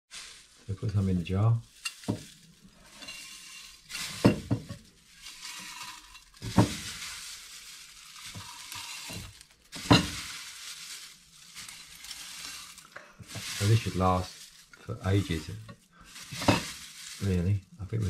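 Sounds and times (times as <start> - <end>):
dried leek pieces rustling: 0.1 - 18.0.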